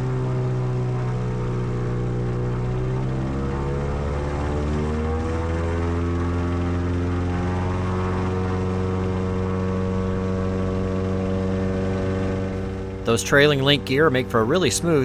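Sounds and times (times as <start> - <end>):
airplane engine and propeller: 0.0 - 15.0.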